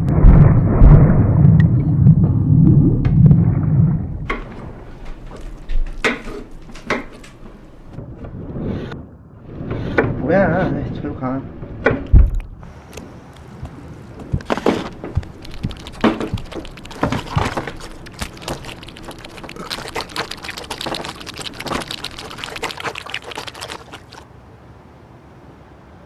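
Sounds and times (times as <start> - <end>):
water splashing and sloshing: 0.0 - 10.2, 11.6 - 24.4.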